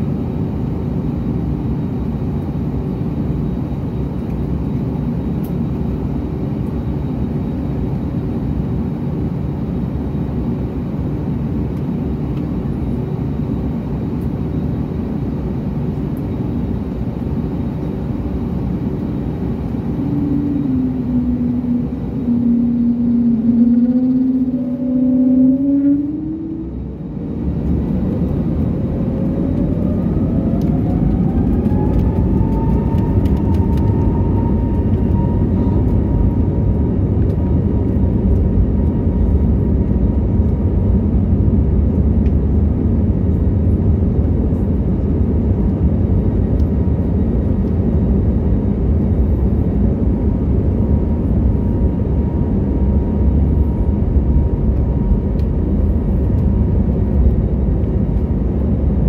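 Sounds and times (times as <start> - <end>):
heavy rumble of aircraft: 0.0 - 59.0
jet engine whine: 0.0 - 59.0.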